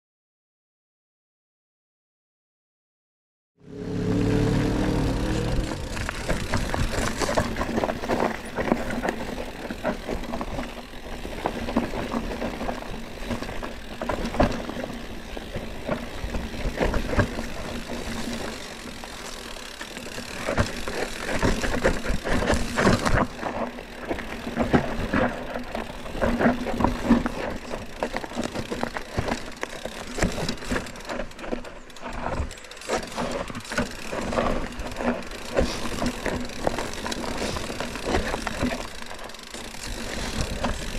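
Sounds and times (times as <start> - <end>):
bike tyres rolling on dirt: 3.9 - 40.9
bike rattling and knocking: 4.5 - 40.9.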